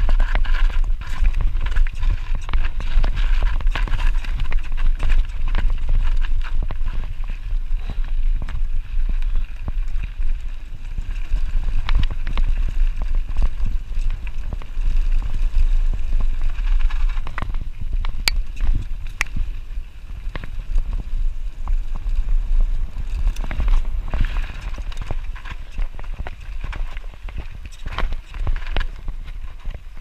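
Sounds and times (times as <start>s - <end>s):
bike rattling over bumps: 0.0s - 30.0s
wind noise on microphone: 0.0s - 30.0s.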